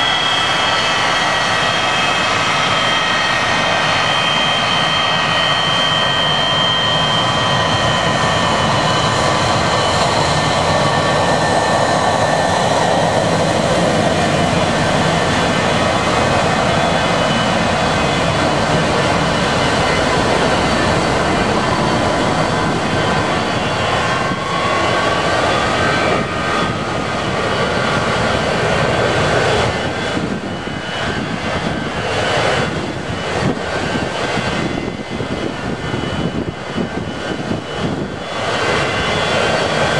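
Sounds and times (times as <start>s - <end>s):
jet engines whining and rumbling: 0.0s - 39.9s.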